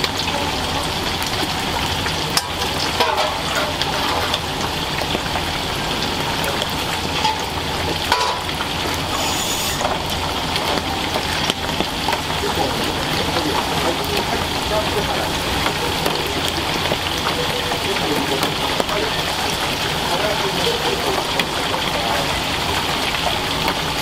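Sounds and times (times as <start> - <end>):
hot oil sizzling and crackling: 0.0 - 24.0.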